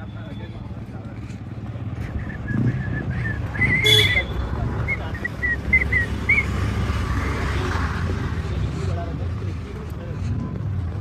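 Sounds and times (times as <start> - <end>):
low rumble of street noise: 0.0 - 11.0.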